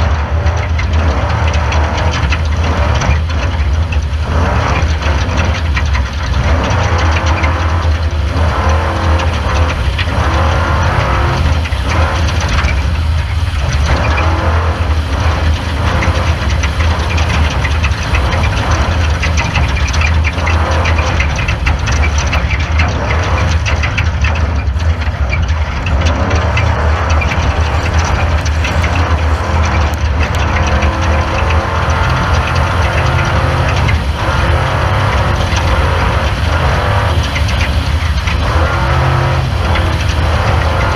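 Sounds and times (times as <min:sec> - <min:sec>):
car rattling over rough ground: 0:00.0 - 0:40.9
race car engine drone: 0:00.0 - 0:40.9.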